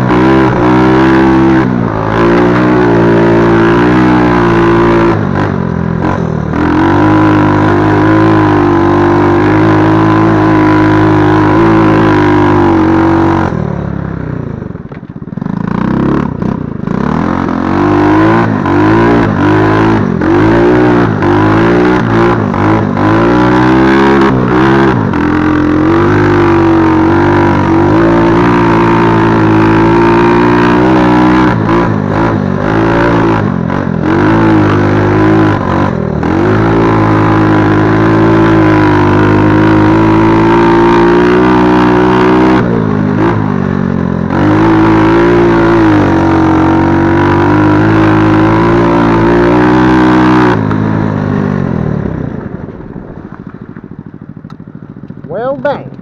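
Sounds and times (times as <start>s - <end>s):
quad engine revving: 0.0s - 52.5s, 54.3s - 56.0s.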